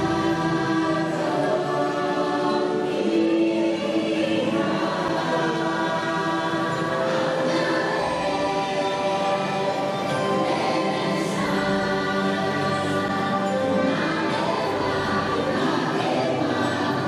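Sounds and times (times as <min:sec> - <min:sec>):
choir chanting long tones: 0:00.0 - 0:17.0.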